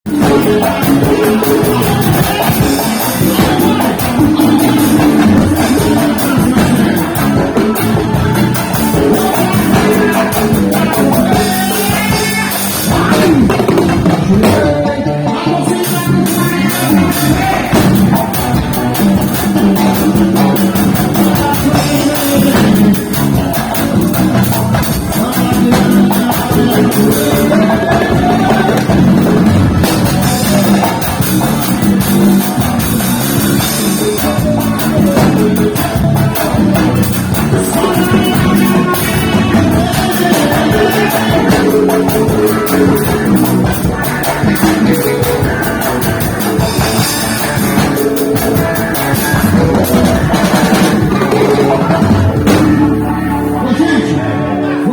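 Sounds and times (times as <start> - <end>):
drums: 0.0 - 54.9
guitar: 0.0 - 54.9
person singing: 0.1 - 54.9.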